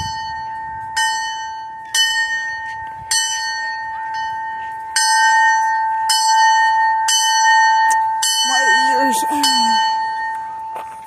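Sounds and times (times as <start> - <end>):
locomotive bell clanging: 0.0 - 11.0.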